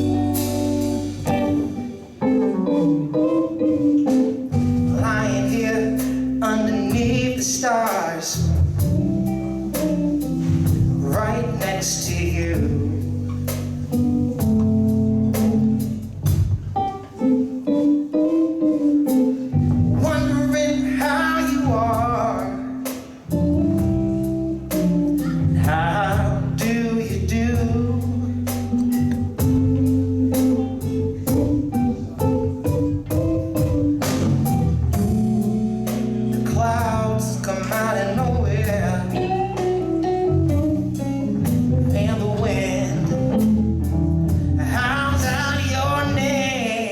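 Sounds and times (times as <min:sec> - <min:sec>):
bending electric guitar lead: 0:00.0 - 0:46.9
live blues band playing: 0:00.0 - 0:46.9.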